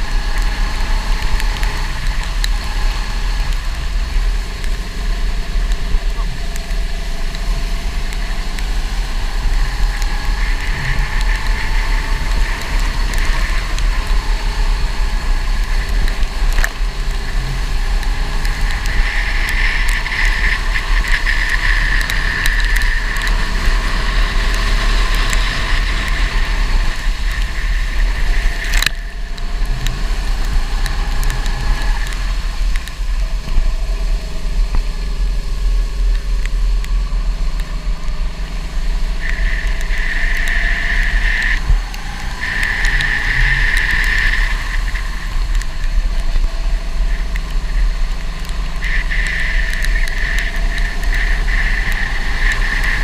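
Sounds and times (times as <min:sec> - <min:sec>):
go-kart engine revving: 0:00.0 - 0:53.0
wind on microphone: 0:00.0 - 0:53.0.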